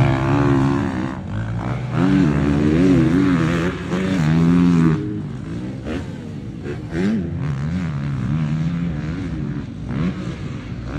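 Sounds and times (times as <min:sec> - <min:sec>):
motocross bike engine revving: 0:00.0 - 0:10.9.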